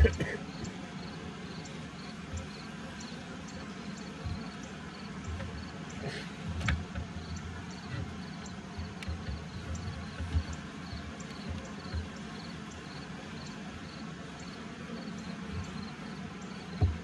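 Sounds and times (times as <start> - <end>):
honeybees buzzing: 0.0 - 17.0
high insect chirp: 0.5 - 5.8, 7.1 - 16.9.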